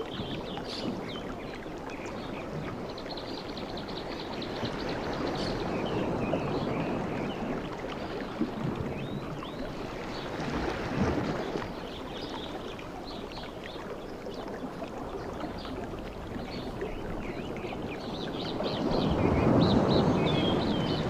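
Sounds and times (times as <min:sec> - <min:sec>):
sea waves washing on beach: 0:00.0 - 0:21.0.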